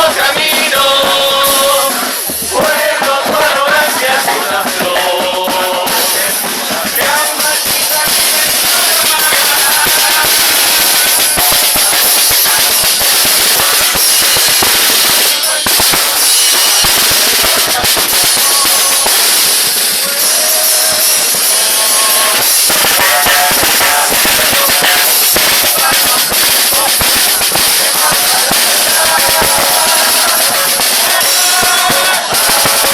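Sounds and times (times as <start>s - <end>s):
group singing: 0.0s - 32.9s
percussion band playing: 0.0s - 32.9s.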